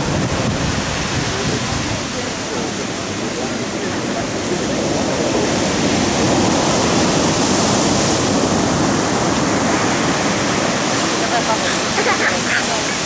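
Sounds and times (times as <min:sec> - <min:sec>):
heavy waves breaking: 0:00.0 - 0:13.0.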